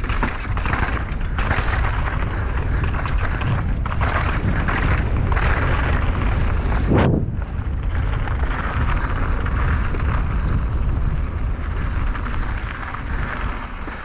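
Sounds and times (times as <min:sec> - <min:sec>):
bike rattling over bumps: 0:00.0 - 0:14.0
bike tyres on rocky dirt: 0:00.0 - 0:14.0
wind on microphone: 0:00.0 - 0:14.0.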